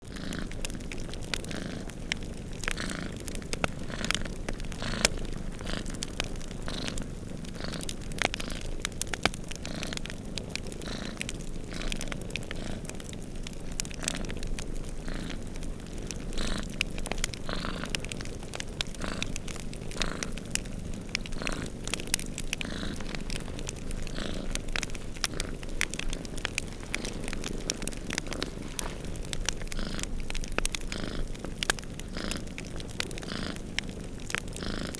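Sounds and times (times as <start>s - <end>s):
cats purring: 0.0s - 34.9s
wood fire crackling: 0.0s - 34.9s.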